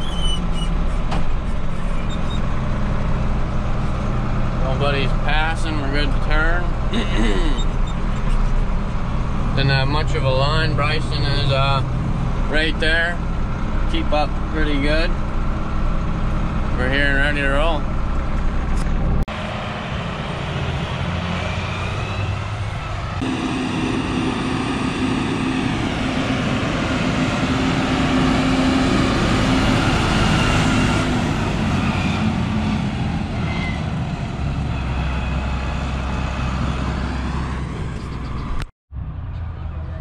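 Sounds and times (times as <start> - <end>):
tractor diesel engines running: 0.0 - 40.0.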